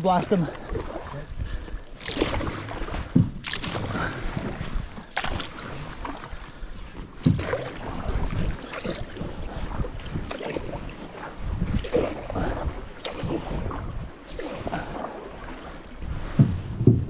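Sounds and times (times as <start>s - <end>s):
water swishing and splashing: 0.0s - 17.0s
paddle knocking against hull: 0.5s - 11.0s, 11.7s - 17.0s.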